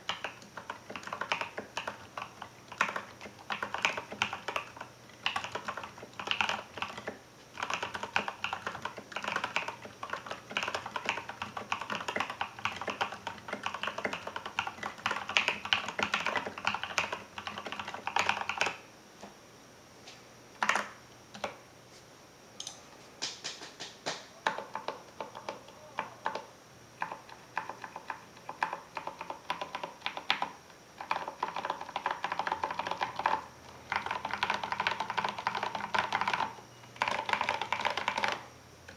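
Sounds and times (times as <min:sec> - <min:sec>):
typing on mechanical keyboard: 0:00.0 - 0:18.8, 0:20.6 - 0:21.6, 0:24.4 - 0:38.9.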